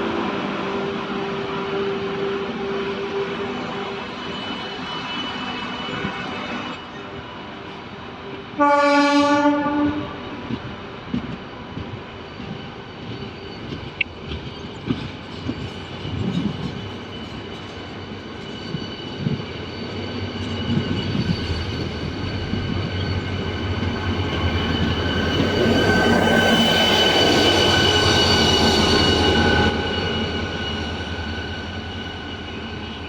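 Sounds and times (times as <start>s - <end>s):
train running: 0.0s - 33.0s.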